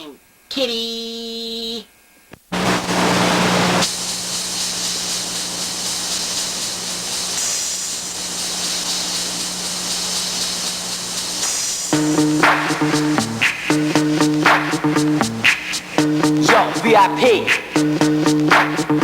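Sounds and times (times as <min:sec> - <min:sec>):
steady hiss: 0:01.2 - 0:19.0.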